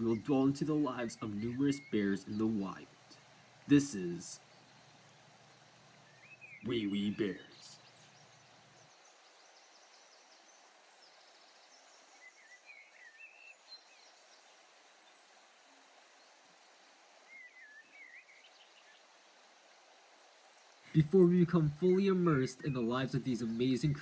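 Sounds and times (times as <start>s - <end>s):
bird chirps: 0.0s - 15.3s, 17.2s - 19.1s, 20.2s - 24.0s
soft steady hiss: 0.0s - 24.0s.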